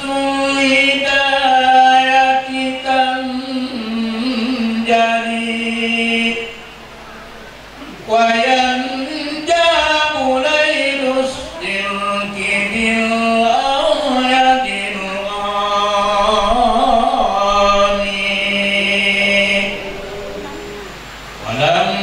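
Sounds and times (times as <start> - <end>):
man chanting with held notes: 0.0 - 22.0.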